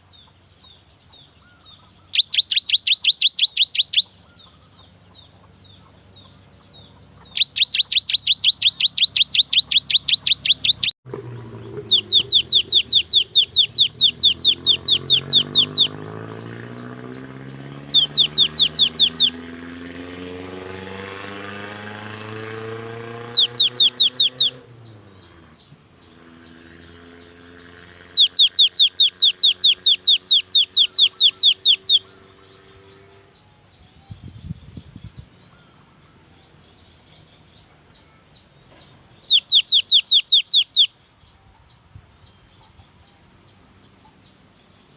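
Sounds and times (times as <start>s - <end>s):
bird chattering song: 0.0s - 44.9s.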